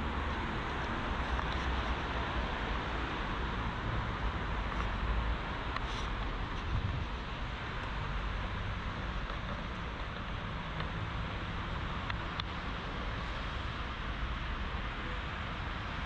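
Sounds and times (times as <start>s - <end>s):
road traffic hiss: 0.0s - 16.0s.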